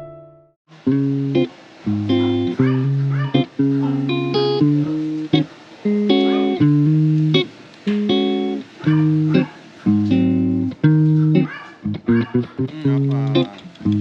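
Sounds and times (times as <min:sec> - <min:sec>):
plucked guitar chords: 0:00.0 - 0:14.0.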